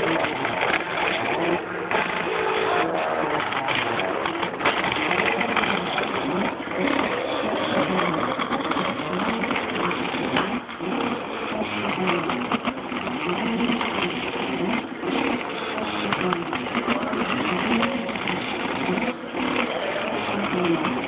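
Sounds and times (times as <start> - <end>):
printer stepper motors whirring: 0.0 - 21.0.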